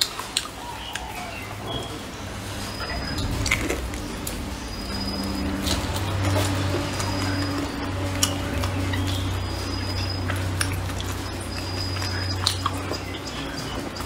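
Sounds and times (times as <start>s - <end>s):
chewing with wet mouth sounds: 0.0s - 2.3s, 3.0s - 14.0s
steady low hum: 0.0s - 14.0s.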